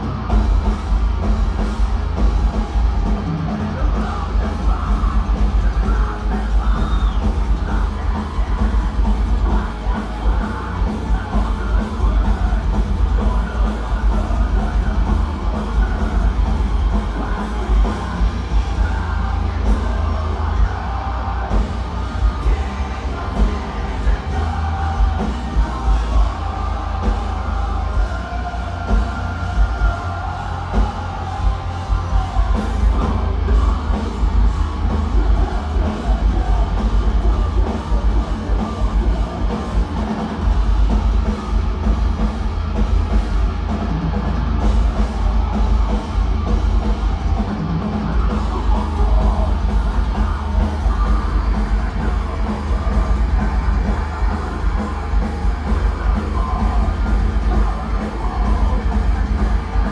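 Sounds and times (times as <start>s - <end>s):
drum kit: 0.0s - 59.9s
metal band playing live: 0.0s - 59.9s
yelled vocals: 0.0s - 59.9s.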